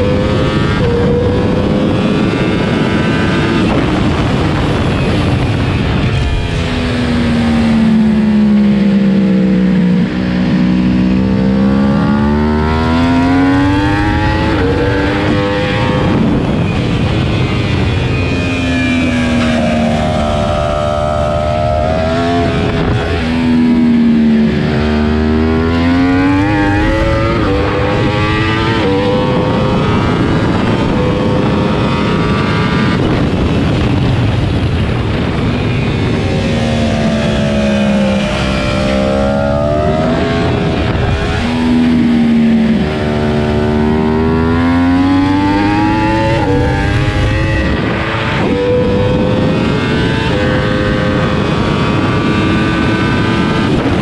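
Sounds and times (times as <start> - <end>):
loud wind rush: 0.0 - 54.0
motorcycle engine revving: 0.0 - 54.0.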